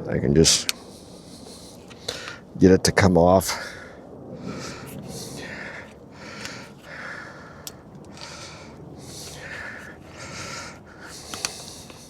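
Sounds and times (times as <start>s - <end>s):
person breathing heavily: 0.7s - 2.6s, 3.5s - 12.0s.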